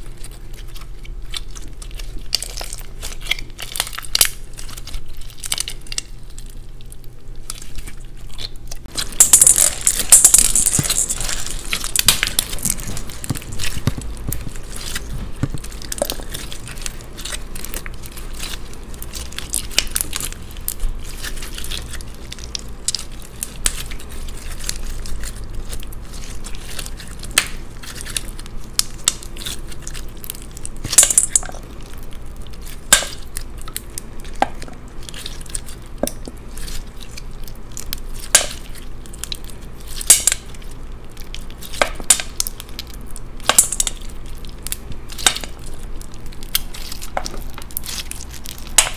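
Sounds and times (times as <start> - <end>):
slime crackling and clicking: 0.2 - 48.9.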